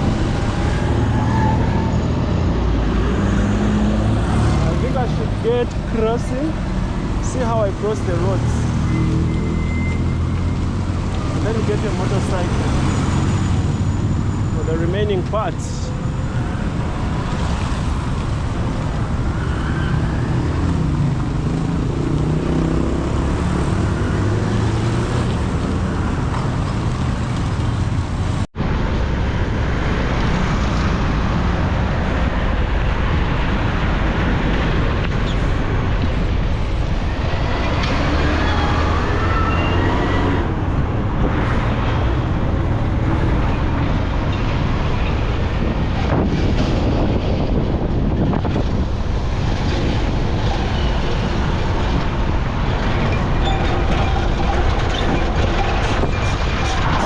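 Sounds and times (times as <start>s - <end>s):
passing vehicles rumble: 0.0s - 57.0s.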